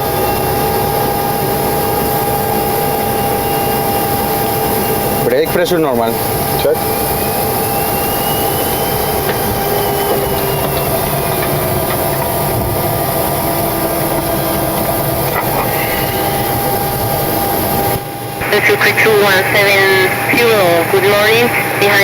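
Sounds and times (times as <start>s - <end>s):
jet engines hissing and rumbling: 0.0s - 22.0s
steady whining tones: 0.0s - 22.0s.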